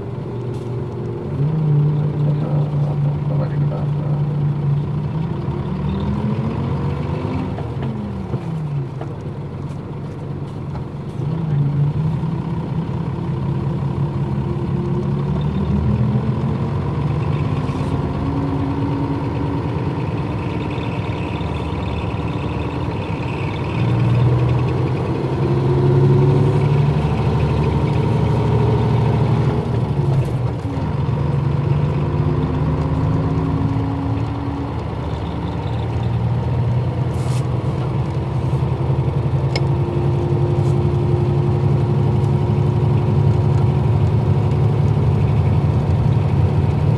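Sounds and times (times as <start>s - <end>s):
bus diesel engine running: 0.0s - 46.9s.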